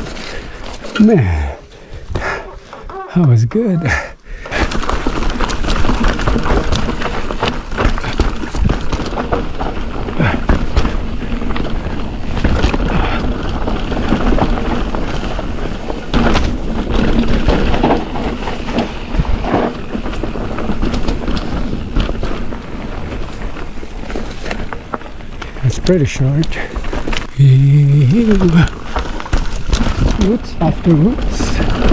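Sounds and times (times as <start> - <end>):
bike knocking and rattling: 0.0 - 31.9
tyre and wind rush: 0.0 - 31.9.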